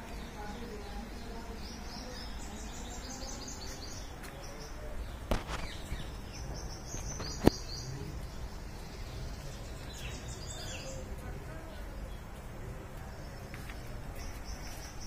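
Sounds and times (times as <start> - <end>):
small birds chirping: 0.0 - 15.0
steady low background noise: 0.0 - 15.0.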